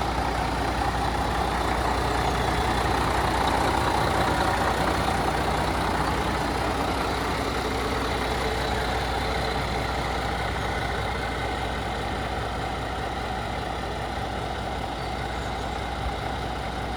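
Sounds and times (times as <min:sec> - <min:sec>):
truck diesel engine running: 0:00.0 - 0:16.9.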